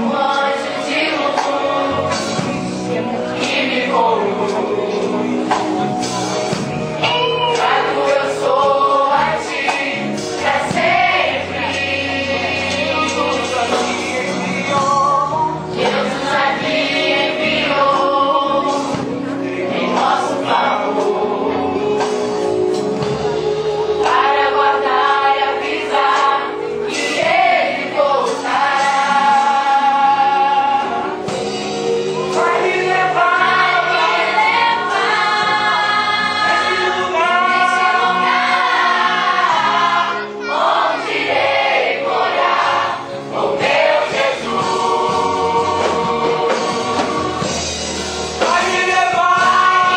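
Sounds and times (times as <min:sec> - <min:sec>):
choir singing worship song: 0:00.0 - 0:49.9
instrumental backing: 0:00.0 - 0:49.9.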